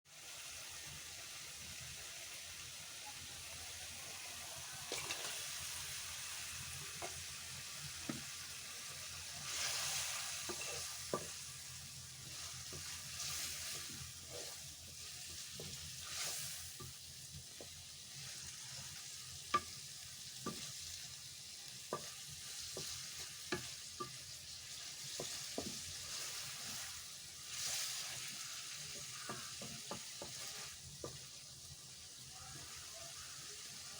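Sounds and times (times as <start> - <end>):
shrimp sizzling in a pan: 0.1 - 33.9.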